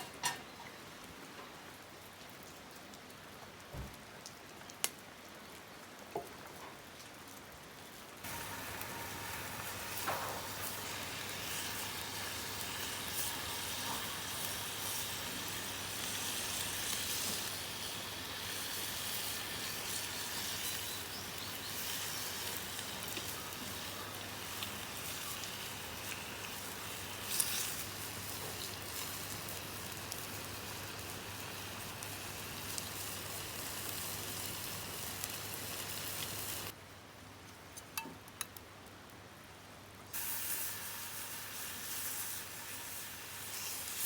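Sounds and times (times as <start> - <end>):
light rain pattering: 0.0 - 40.2
food sizzling over campfire: 4.7 - 36.8, 40.1 - 44.0.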